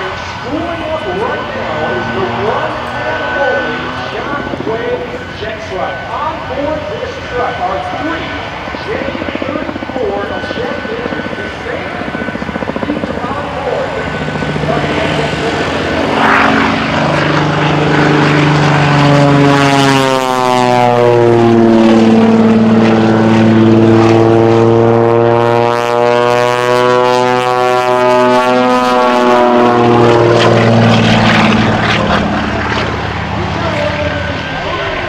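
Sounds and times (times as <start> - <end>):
propeller plane engine droning: 0.0 - 35.0.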